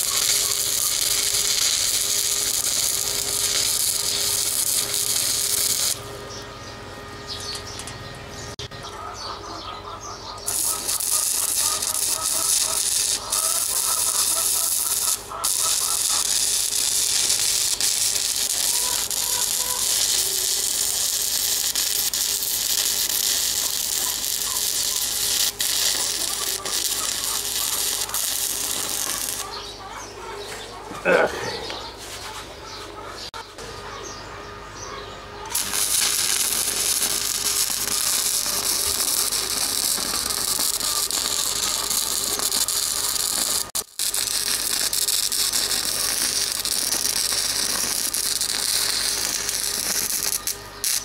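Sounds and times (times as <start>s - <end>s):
welding arc crackling sizzle: 0.0s - 6.5s, 10.4s - 29.8s, 35.5s - 51.0s.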